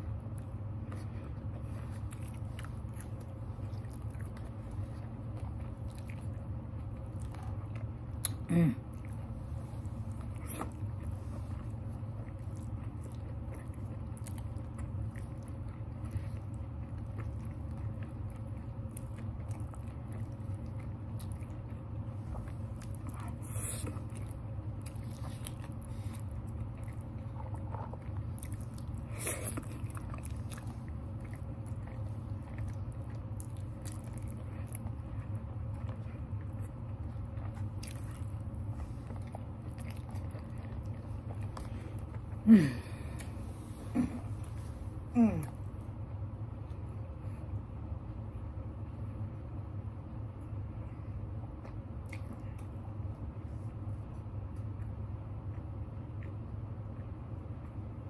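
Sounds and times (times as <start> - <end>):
close chewing and mouth sounds: 0.0 - 58.0
steady low hum: 0.0 - 58.0.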